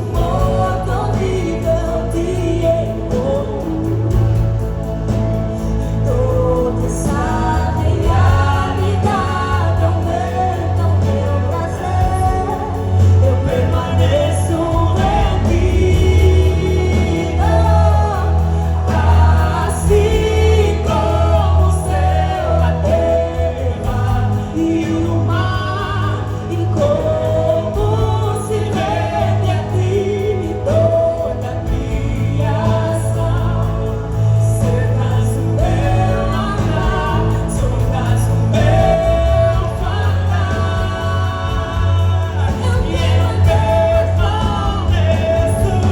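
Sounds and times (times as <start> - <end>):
band with steady bass: 0.0 - 45.9
choir singing gospel: 0.0 - 45.9.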